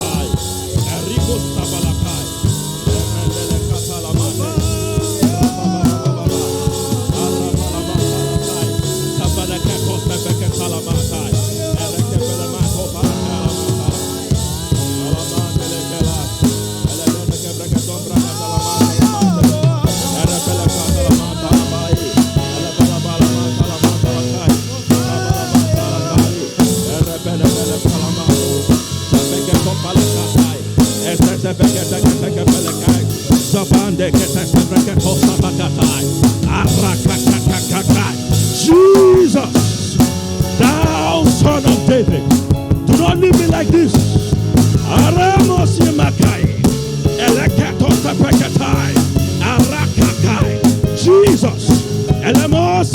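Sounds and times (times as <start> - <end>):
drum kit beat: 0.0 - 52.9
held pitched notes: 0.0 - 52.9.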